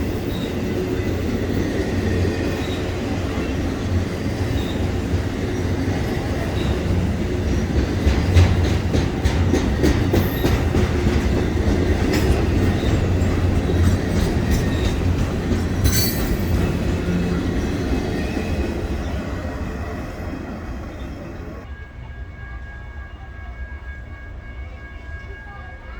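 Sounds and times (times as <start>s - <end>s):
freight train cars rumbling: 0.0s - 25.9s
wheels clanking over rail joints: 0.2s - 21.6s.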